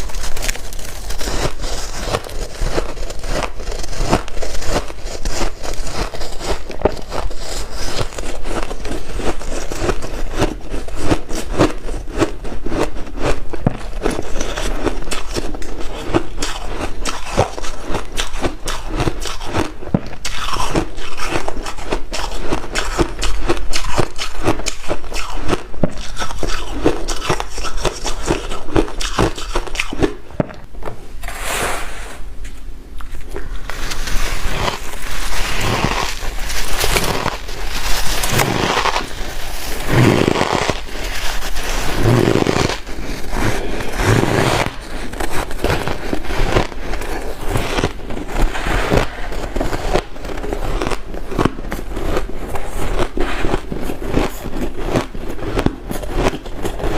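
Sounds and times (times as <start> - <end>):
chewing and crunching ice: 0.0 - 30.7, 33.2 - 56.9.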